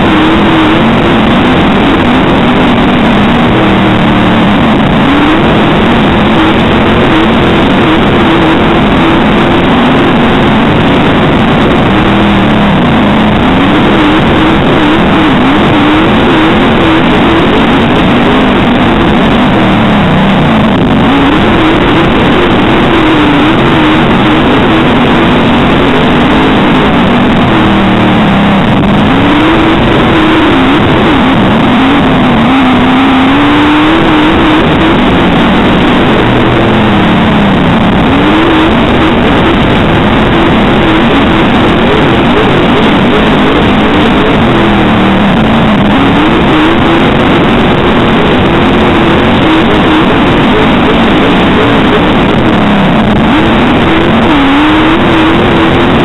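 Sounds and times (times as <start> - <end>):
race car engine: 0.0 - 56.0.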